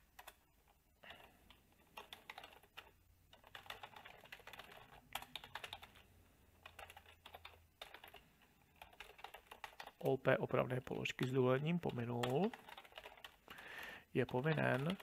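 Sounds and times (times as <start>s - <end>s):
faint keyboard typing: 0.0s - 15.0s.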